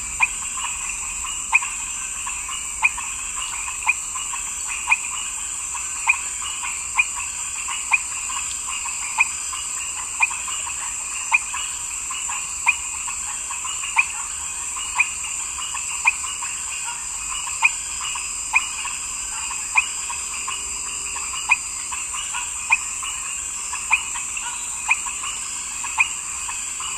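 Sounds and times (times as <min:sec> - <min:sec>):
frog croaking: 0:00.0 - 0:26.9
high-pitched background hiss: 0:00.0 - 0:26.9.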